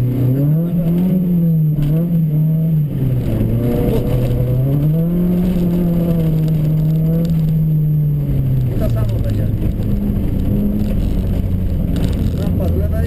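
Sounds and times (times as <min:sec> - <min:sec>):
rally car engine from inside cabin: 0:00.0 - 0:13.0.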